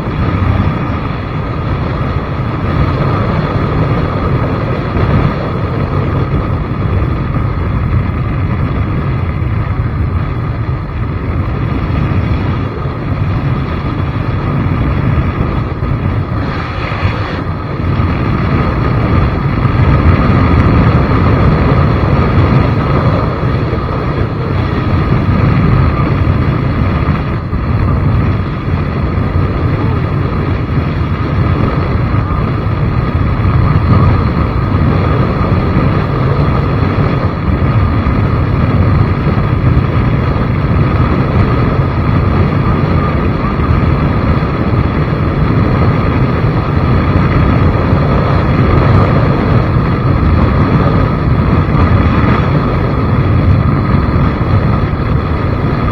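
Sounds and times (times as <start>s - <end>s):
vehicle noise: 0.0s - 55.9s
wind rushing: 0.0s - 55.9s.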